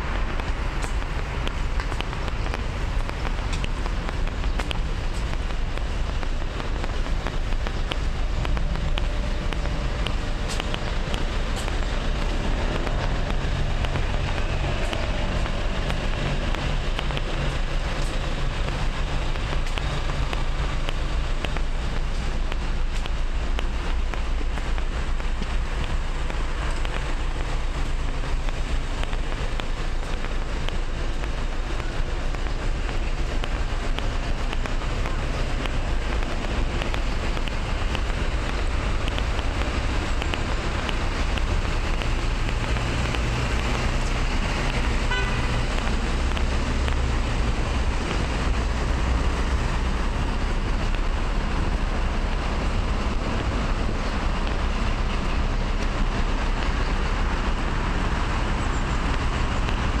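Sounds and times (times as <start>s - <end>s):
road traffic passing: 0.0s - 60.0s.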